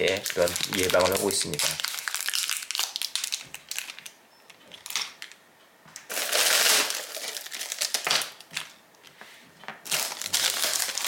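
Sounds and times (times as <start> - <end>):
plastic packaging crinkling: 0.0 - 5.4, 6.0 - 8.8, 9.8 - 11.0.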